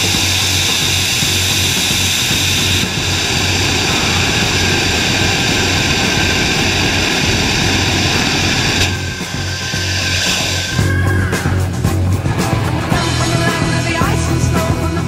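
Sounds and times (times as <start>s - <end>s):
rocket engine roaring: 0.0s - 13.9s.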